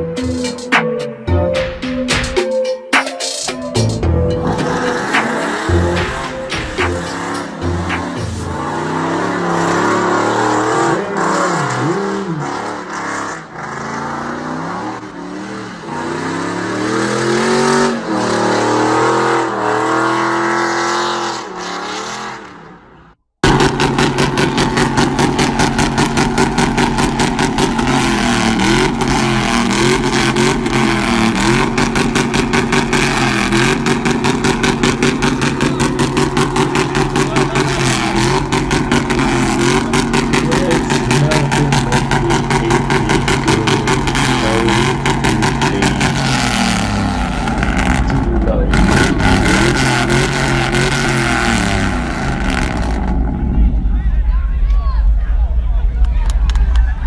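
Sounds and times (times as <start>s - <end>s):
truck exhaust revving: 4.2s - 53.9s
loud exhaust pulsing chop: 4.4s - 57.0s.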